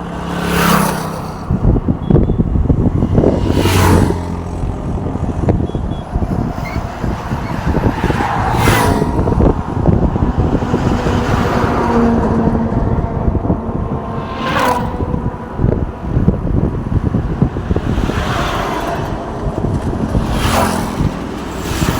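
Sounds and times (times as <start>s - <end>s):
engine and tyre rumble: 0.0s - 21.9s
trucks whooshing past: 0.0s - 21.9s
wind buffeting microphone: 0.0s - 21.9s.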